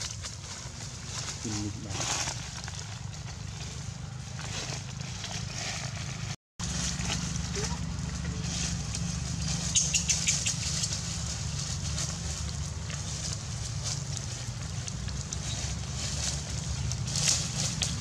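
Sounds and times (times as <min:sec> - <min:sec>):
dry leaves crackling and rustling: 0:00.0 - 0:18.0
steady low hum: 0:00.3 - 0:18.0.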